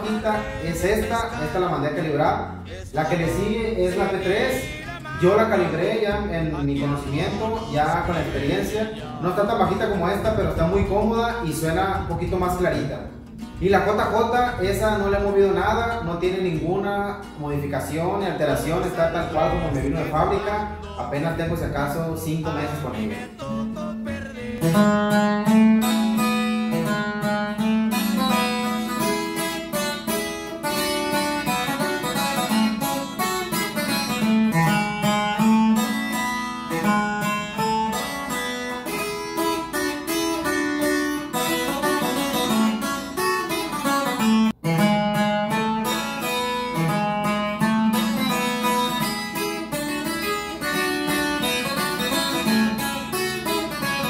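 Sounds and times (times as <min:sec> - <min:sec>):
twelve-string acoustic guitar melody: 0:00.0 - 0:54.0.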